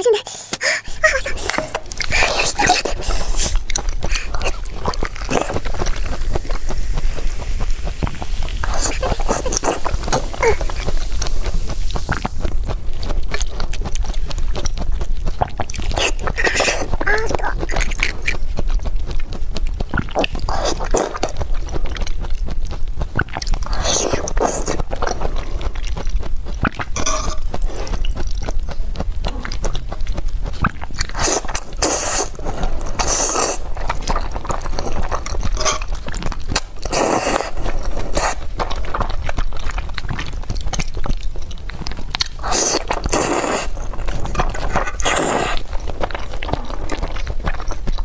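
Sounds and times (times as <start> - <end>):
chewing and mouth clicks: 0.2 - 48.0.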